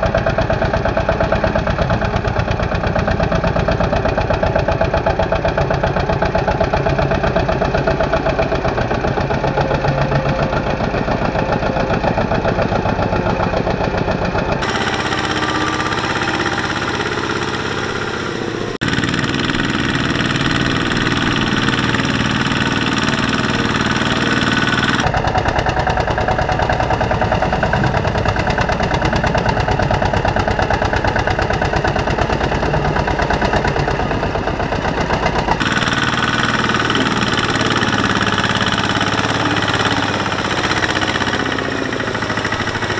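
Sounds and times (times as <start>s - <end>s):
diesel tractor engines chugging: 0.0s - 42.9s.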